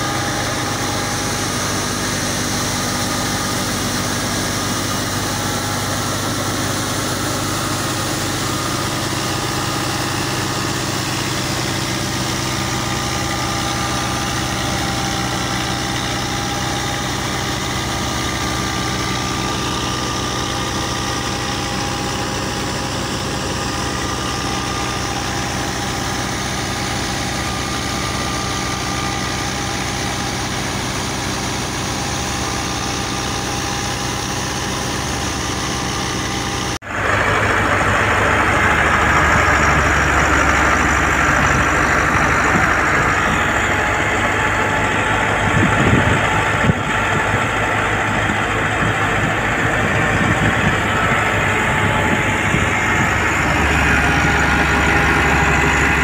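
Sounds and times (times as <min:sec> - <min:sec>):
tractor and thresher din: 0:00.0 - 0:56.0
tractor diesel engine running: 0:00.0 - 0:56.0.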